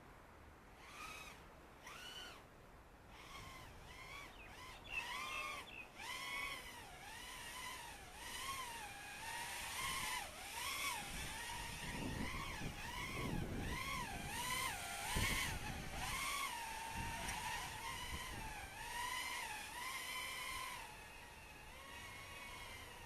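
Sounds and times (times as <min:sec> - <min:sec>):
drone motors whining: 0:00.8 - 0:02.5, 0:03.1 - 0:23.0.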